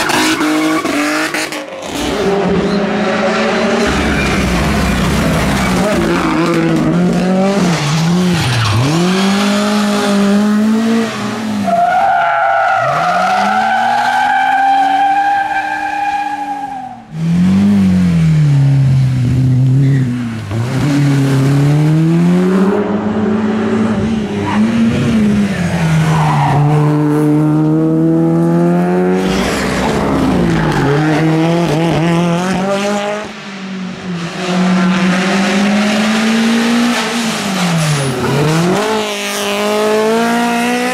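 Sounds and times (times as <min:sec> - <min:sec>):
race car engines revving: 0:00.0 - 0:40.9.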